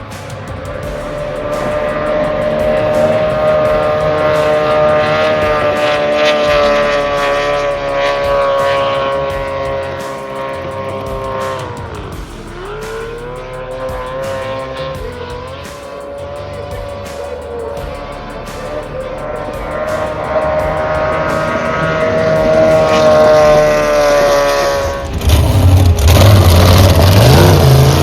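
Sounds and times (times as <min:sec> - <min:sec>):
boat engine at high revs: 0:00.0 - 0:28.0.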